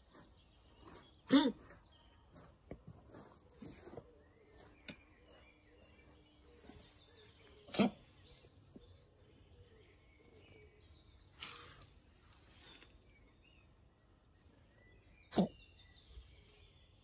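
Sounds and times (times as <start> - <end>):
quiet outdoor ambience: 0.0 - 17.0
small bird singing: 0.0 - 17.0.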